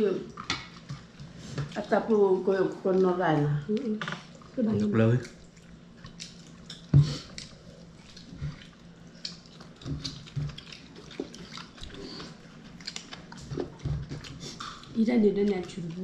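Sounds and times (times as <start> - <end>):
wet chewing and smacking: 0.3 - 16.0.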